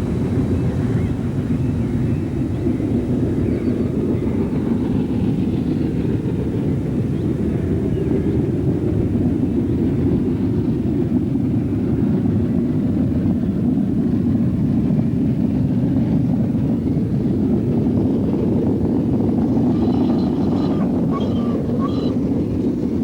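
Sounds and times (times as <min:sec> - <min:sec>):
steam train low rumble: 0:00.0 - 0:23.0.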